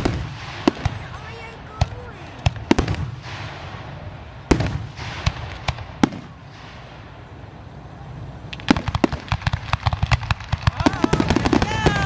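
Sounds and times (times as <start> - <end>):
firework crackling pops: 0.0 - 7.2, 8.5 - 12.0
firework bangs: 0.0 - 7.7, 8.4 - 12.0.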